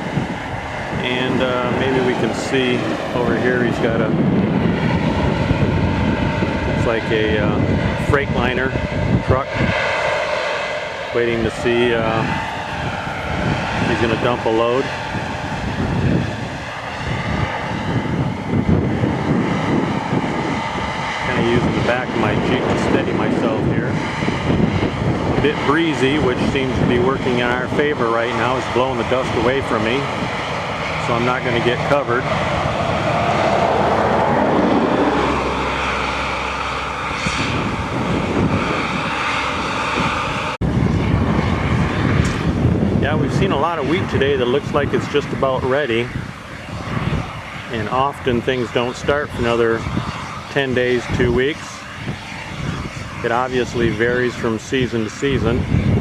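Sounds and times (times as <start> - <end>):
engine drone: 0.0 - 56.0
wind buffeting microphone: 0.0 - 56.0.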